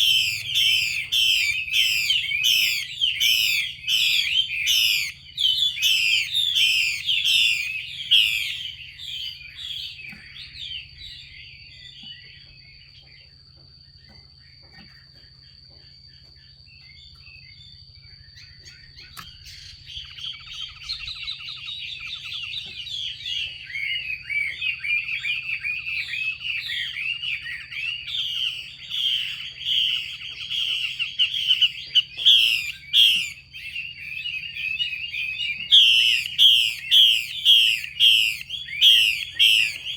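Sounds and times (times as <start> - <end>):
bird chattering calls: 0.0 - 11.1, 18.4 - 39.9.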